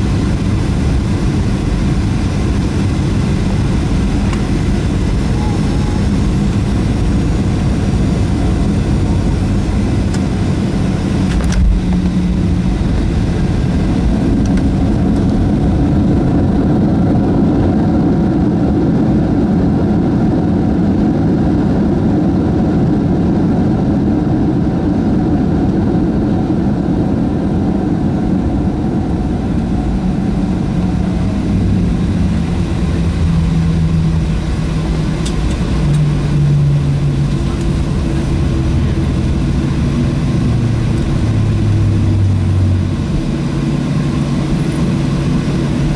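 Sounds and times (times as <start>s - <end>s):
jet engine cabin noise: 0.0s - 45.9s
reverse thrust engine rumble: 0.0s - 45.9s.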